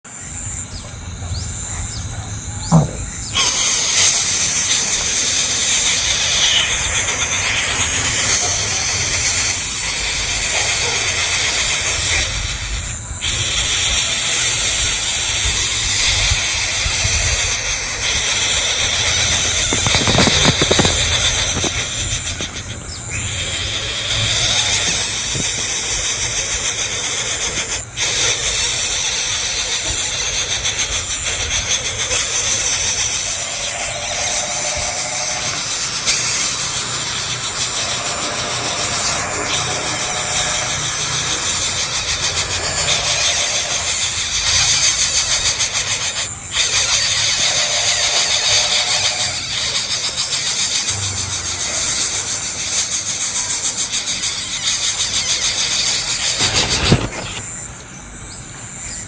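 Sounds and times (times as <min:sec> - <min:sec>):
high-pitched hiss and buzz: 0:00.1 - 0:59.0.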